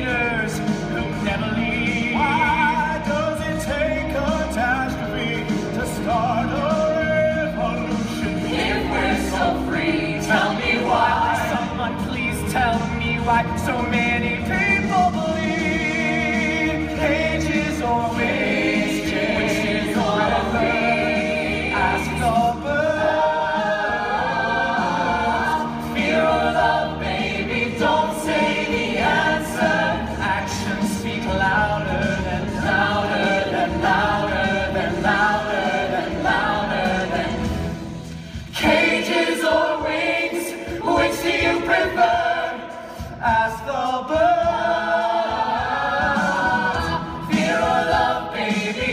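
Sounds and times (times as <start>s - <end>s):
group singing in harmony: 0.0s - 48.9s.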